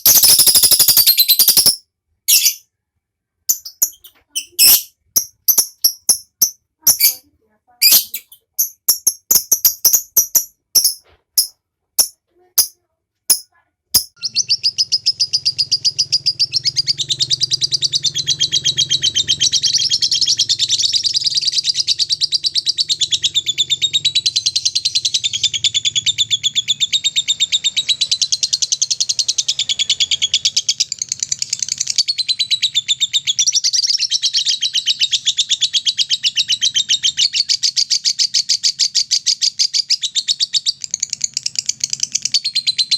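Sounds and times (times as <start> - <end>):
bird chirping and trilling: 0.0 - 2.6, 3.5 - 42.9.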